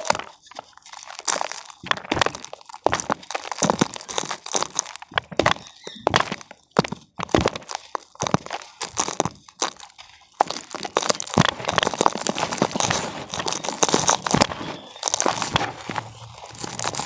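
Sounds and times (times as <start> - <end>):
damp cement crunching: 0.0 - 17.0.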